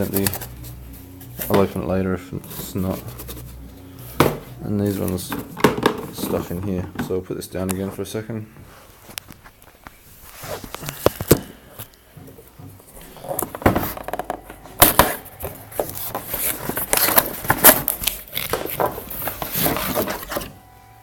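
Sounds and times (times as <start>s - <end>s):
cardboard boxes rustling and crackling: 0.0s - 7.2s, 8.7s - 20.6s.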